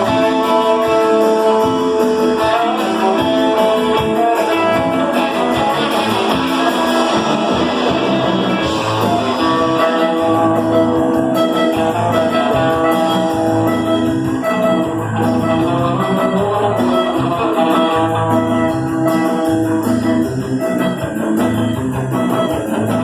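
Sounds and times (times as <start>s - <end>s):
guitar: 0.0s - 23.0s
live rock band playing: 0.0s - 23.0s.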